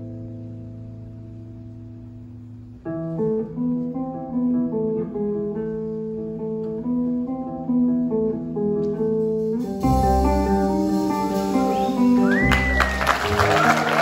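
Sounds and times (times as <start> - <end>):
jazz guitar melody: 0.0 - 14.0.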